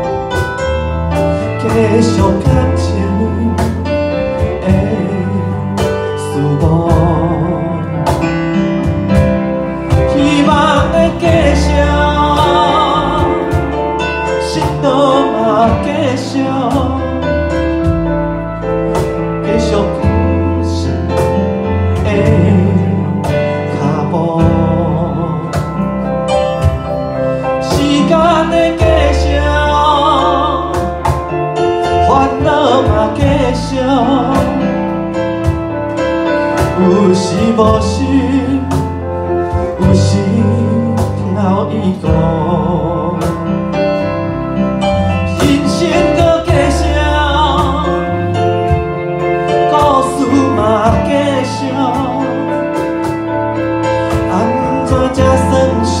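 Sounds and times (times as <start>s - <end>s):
electric keyboard: 0.0s - 56.0s
upright bass line: 0.0s - 56.0s.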